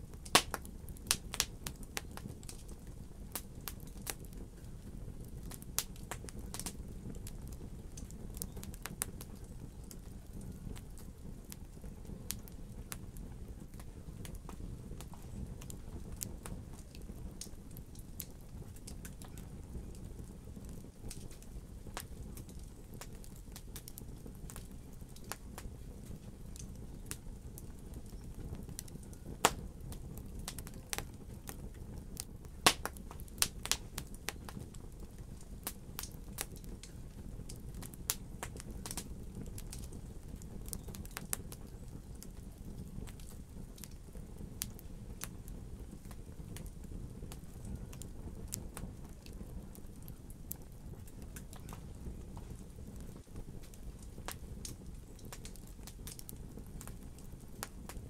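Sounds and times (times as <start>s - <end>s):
fire crackling and popping: 0.0s - 58.0s
low fire rumble: 0.0s - 58.0s.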